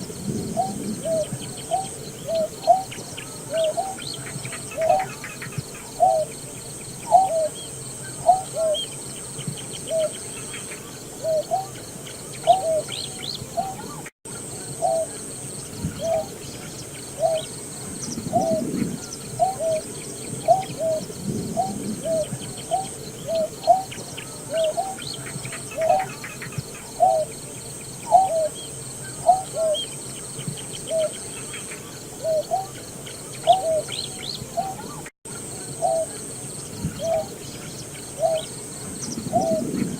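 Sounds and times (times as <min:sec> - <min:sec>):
bird low hooting notes: 0:00.0 - 0:39.9
faint bird chirps: 0:00.0 - 0:39.9.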